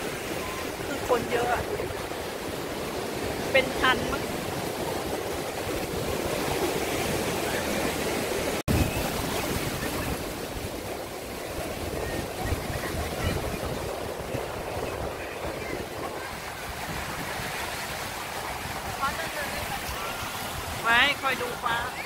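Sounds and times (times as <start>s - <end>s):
small waves breaking on sand: 0.0s - 22.0s
wind buffeting microphone: 0.0s - 22.0s.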